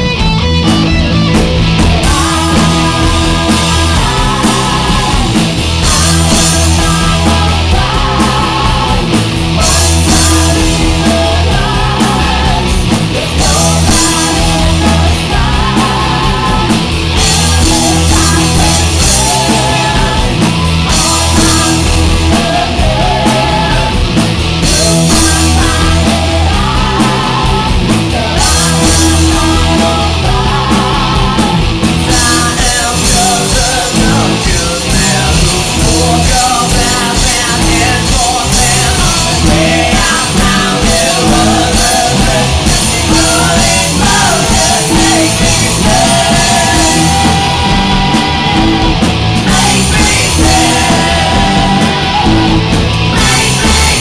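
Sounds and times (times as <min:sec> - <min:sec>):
distorted electric guitars: 0:00.0 - 0:54.0
drum kit: 0:00.0 - 0:54.0
electric bass: 0:00.0 - 0:54.0.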